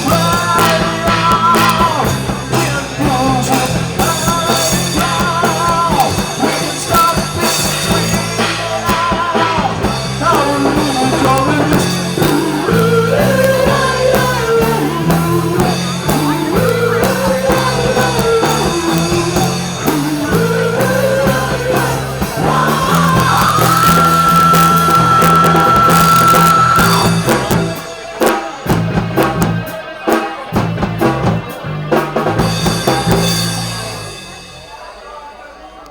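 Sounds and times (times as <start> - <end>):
rock song with singing: 0.0 - 35.9.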